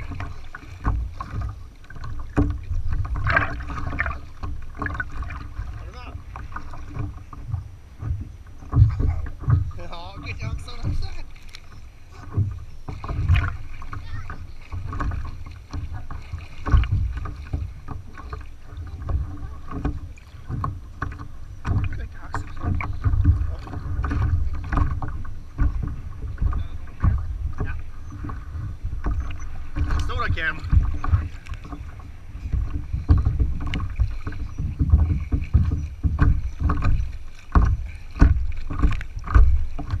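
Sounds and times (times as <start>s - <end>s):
low thuds against hull: 0.0s - 40.0s
water slapping and splashing: 0.0s - 40.0s.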